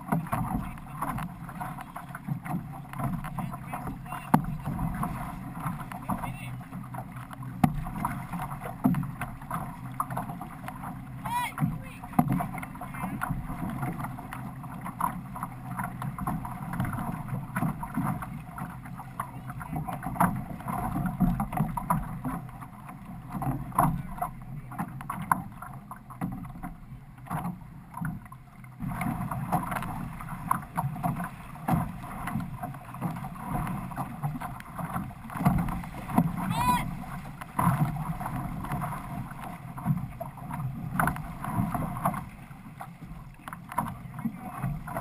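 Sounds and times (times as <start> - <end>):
paddle stroke splashes: 0.0 - 45.0
water gurgling along canoe hull: 0.0 - 45.0.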